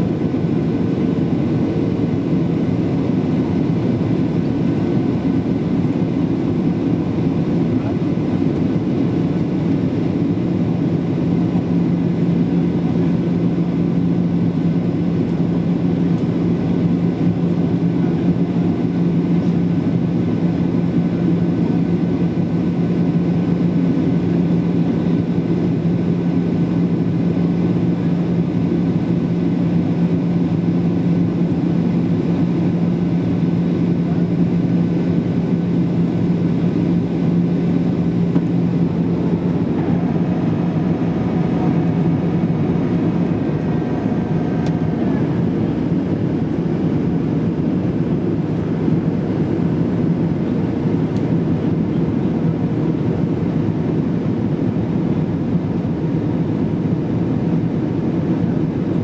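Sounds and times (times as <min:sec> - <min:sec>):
airplane cabin engine roar: 0:00.0 - 0:59.0
steady low hum: 0:00.0 - 0:59.0.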